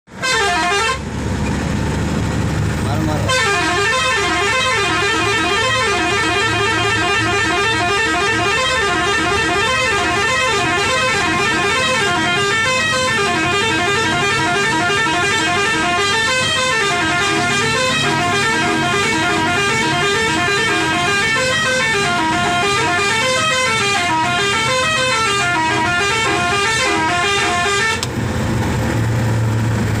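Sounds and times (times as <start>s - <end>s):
truck musical horn playing a tune: 0.1s - 1.1s, 3.2s - 28.1s
low engine hum: 0.2s - 30.0s.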